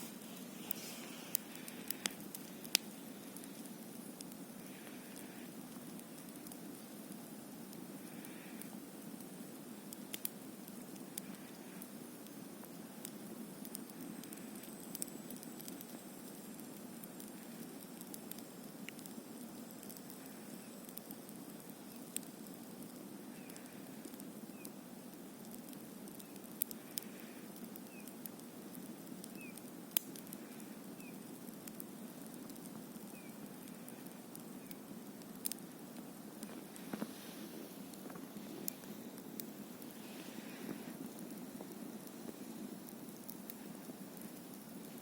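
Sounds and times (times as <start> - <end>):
campfire burning: 0.0 - 45.0
fire crackles and pops: 0.0 - 45.0.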